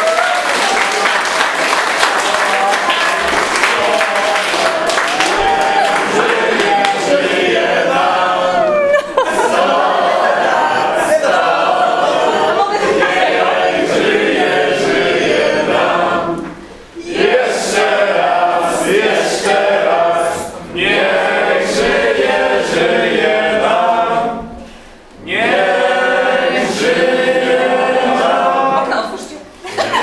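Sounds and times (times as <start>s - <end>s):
group of voices singing: 2.0s - 30.0s.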